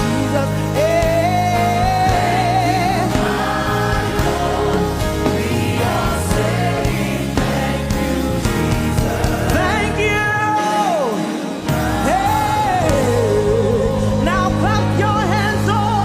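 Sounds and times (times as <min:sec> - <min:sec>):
steady bass line: 0:00.0 - 0:10.5, 0:11.6 - 0:16.0.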